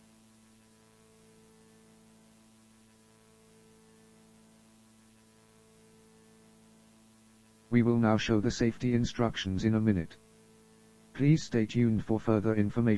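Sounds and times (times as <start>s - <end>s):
faint steady low hum: 0.0s - 12.9s.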